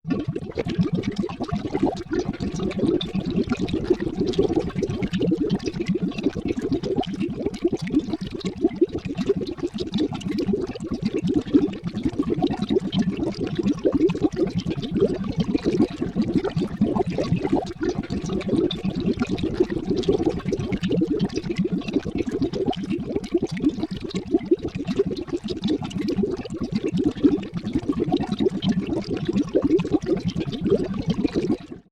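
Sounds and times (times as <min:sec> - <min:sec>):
liquid boiling and bubbling: 0:00.0 - 0:31.9.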